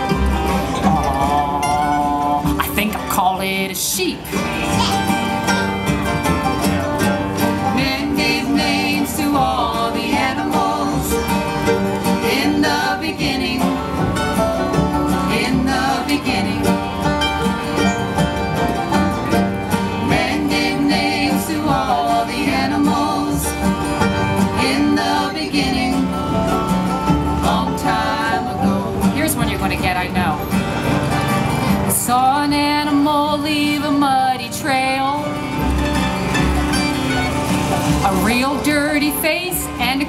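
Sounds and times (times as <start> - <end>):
bluegrass band playing: 0.0 - 40.0.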